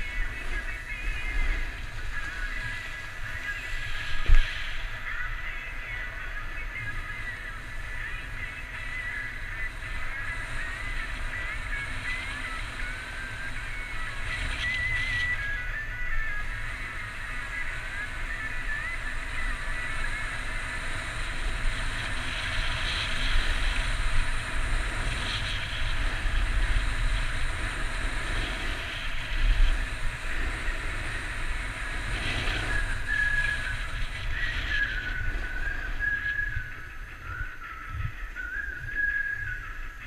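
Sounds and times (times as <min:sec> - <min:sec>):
skis hissing over snow: 0:00.0 - 0:37.4
thin wavering whistle-like tone: 0:00.0 - 0:40.0
wind rumbling on microphone: 0:00.0 - 0:40.0.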